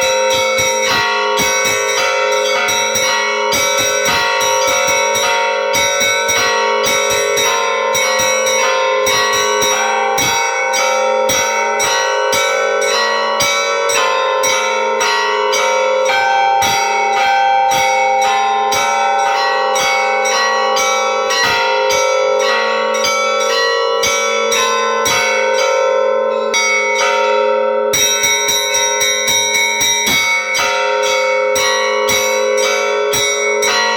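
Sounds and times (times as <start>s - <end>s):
large church bells ringing: 0.0s - 33.9s
small church bells striking quickly: 0.0s - 33.9s.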